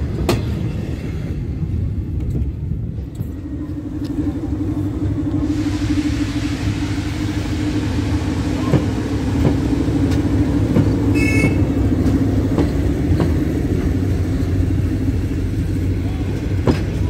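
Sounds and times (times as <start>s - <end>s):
locomotive engine humming: 0.0s - 17.0s
wheels clicking on track: 1.7s - 17.0s.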